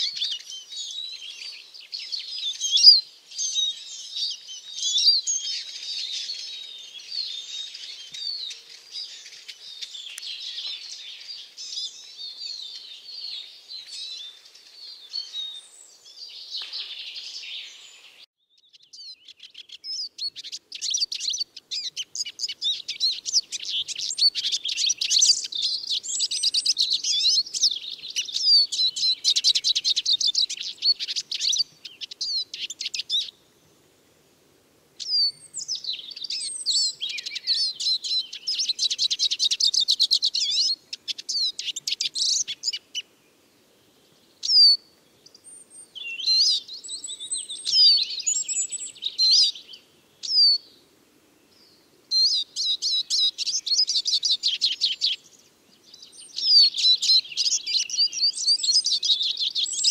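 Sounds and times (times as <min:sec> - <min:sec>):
bird twittering song: 0:00.0 - 0:33.9, 0:35.0 - 0:50.8, 0:51.4 - 0:59.9.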